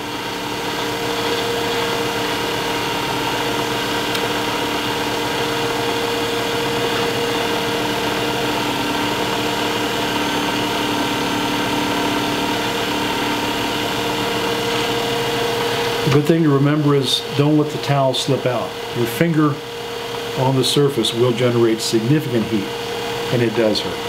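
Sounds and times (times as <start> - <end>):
paper towel rubbing spinning wood: 0.0 - 19.4
wood lathe humming: 0.0 - 24.0.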